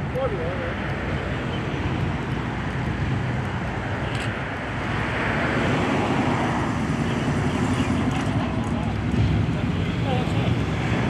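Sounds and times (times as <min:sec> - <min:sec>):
car engine rough rumble: 0:00.0 - 0:11.0.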